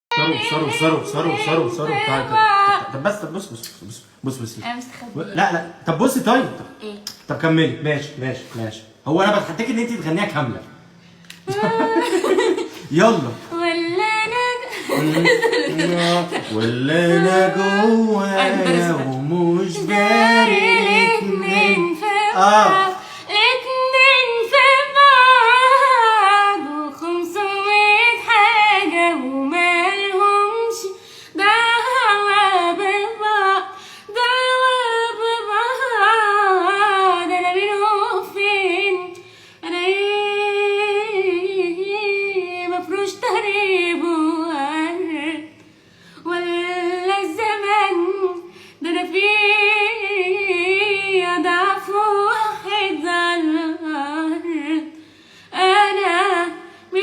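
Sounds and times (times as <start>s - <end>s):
woman singing unaccompanied: 0.1s - 3.0s, 11.4s - 45.6s, 46.2s - 57.0s.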